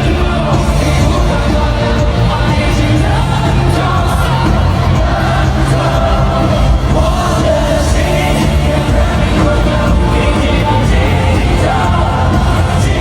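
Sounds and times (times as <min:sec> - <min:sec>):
crowd cheering: 0:00.0 - 0:13.0
live pop music with heavy bass: 0:00.0 - 0:13.0
person singing: 0:00.0 - 0:13.0.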